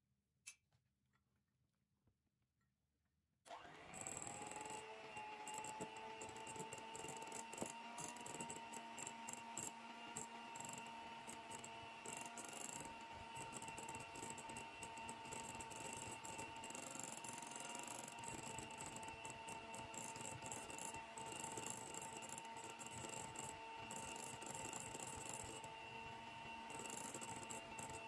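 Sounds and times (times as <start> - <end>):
beaters whipping cream in bowl: 3.5 - 28.0
electric hand mixer whining: 3.5 - 28.0.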